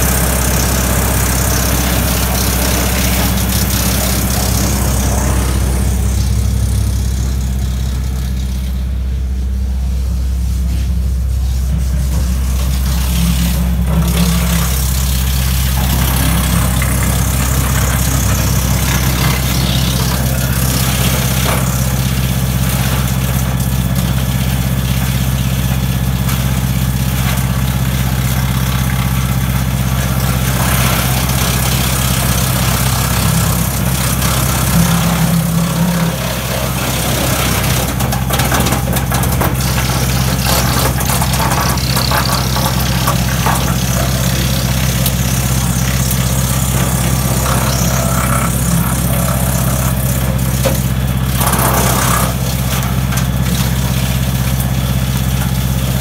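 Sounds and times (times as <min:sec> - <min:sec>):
tractor engine driving woodchipper: 0:00.0 - 0:56.0.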